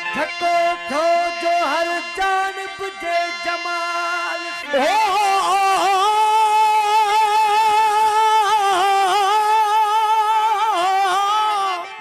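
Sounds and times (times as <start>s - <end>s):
man singing long high note: 0.0s - 12.0s.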